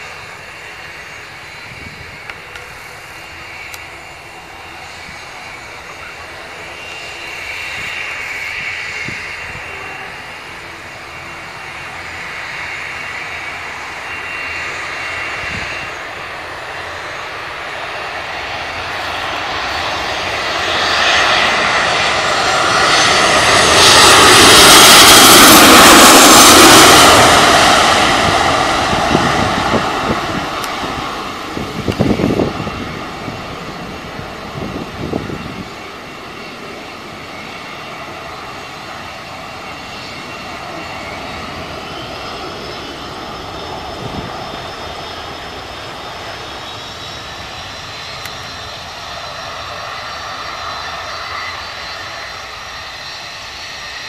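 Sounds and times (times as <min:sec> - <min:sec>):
jet airliner roaring overhead: 0:00.0 - 0:54.0
jet engine whine: 0:00.0 - 0:54.0.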